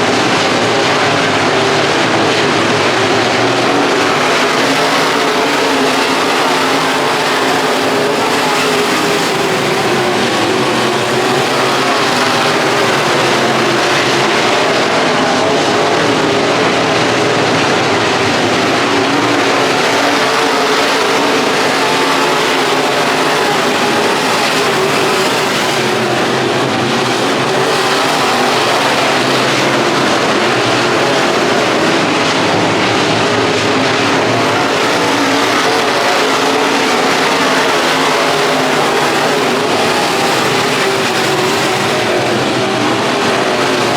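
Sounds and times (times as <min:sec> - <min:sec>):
race car engine running hard: 0:00.0 - 0:43.9.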